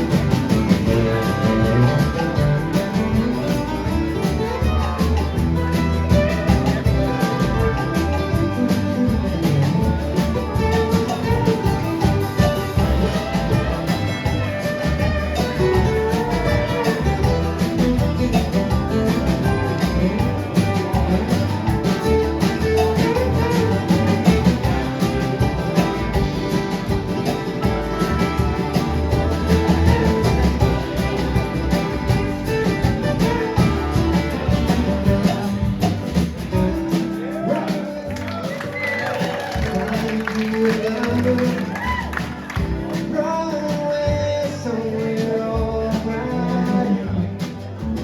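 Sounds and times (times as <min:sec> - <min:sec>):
country band playing: 0:00.0 - 0:48.0.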